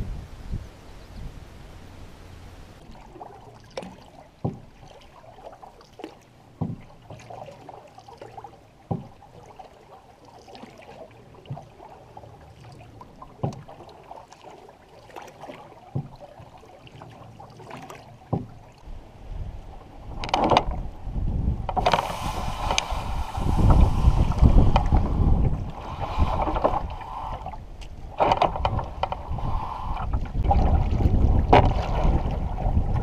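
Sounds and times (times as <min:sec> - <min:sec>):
paddle water swishing and dripping: 0:01.7 - 0:33.0
paddle knocking on canoe: 0:02.8 - 0:10.0, 0:10.6 - 0:18.8, 0:19.8 - 0:33.0.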